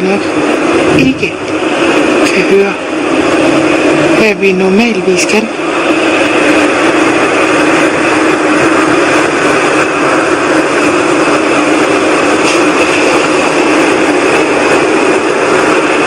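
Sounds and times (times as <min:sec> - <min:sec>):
rushing drone with whooshing hiss: 0:00.0 - 0:16.0.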